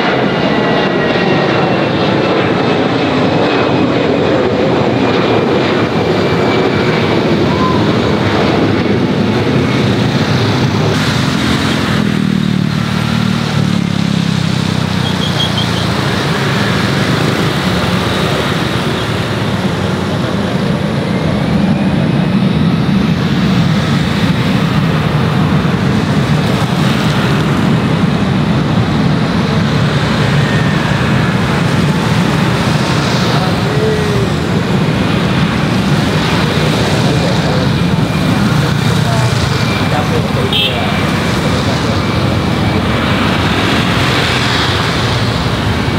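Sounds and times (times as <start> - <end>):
engine rumble and drone: 0.0 - 45.9.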